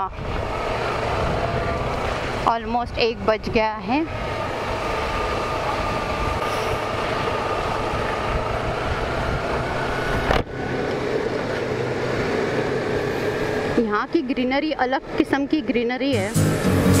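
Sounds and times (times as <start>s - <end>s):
motorcycle engine hum: 0.0s - 17.0s
wind and road noise: 0.0s - 17.0s.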